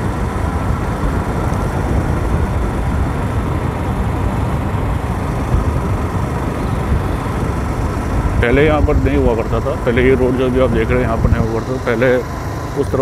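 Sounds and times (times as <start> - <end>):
vehicle road noise: 0.0 - 13.0
wind buffeting microphone: 0.0 - 13.0.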